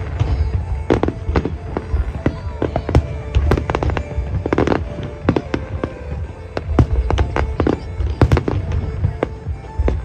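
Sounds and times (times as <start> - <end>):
fireworks bursting: 0.0 - 10.0
music playing: 0.0 - 10.0.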